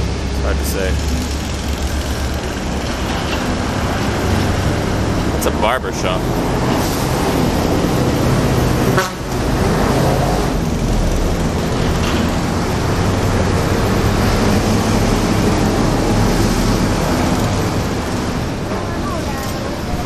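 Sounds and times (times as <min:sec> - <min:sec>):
street traffic noise: 0:00.0 - 0:20.0
vehicle engine humming: 0:00.0 - 0:20.0.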